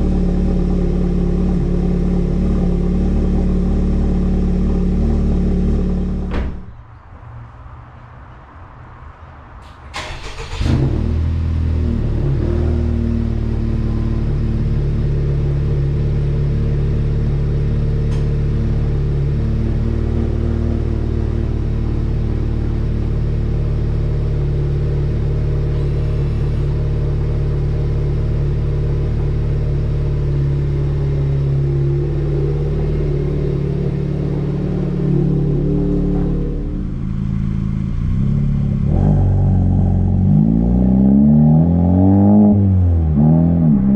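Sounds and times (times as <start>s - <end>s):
car engine idling and revving: 0.0s - 6.8s, 9.6s - 43.9s.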